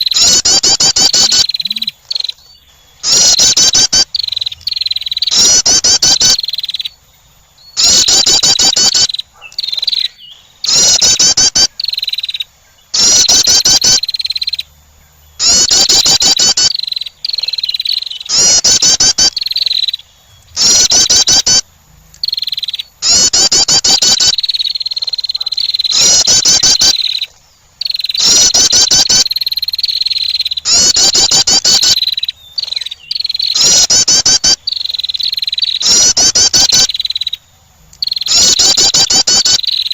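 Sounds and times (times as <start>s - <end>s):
wren buzzy trills: 0.0s - 39.9s.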